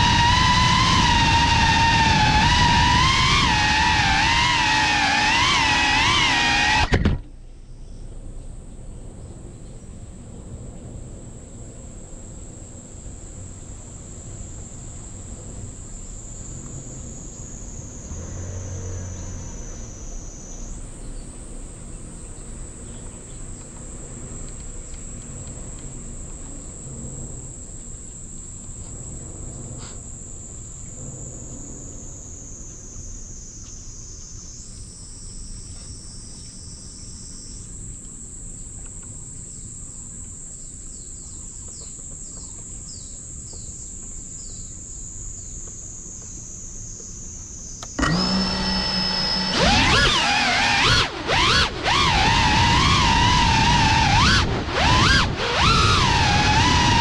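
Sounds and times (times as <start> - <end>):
high-pitched insect chorus: 10.9 - 57.0.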